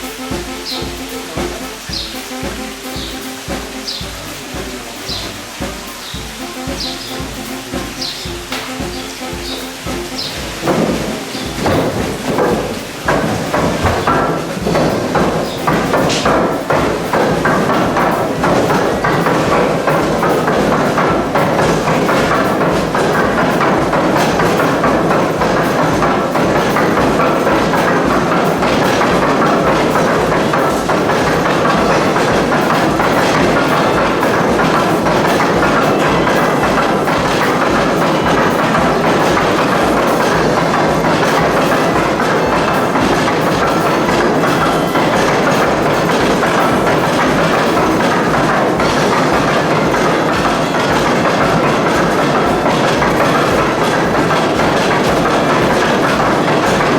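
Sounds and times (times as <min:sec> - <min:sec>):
steam machinery clattering and pounding: 0:00.0 - 0:56.9.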